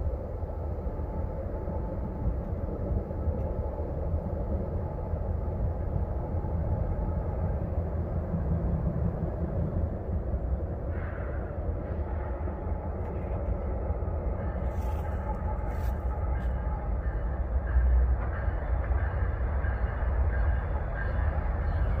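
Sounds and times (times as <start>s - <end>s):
freight train rumbling on rails: 0.0s - 22.0s.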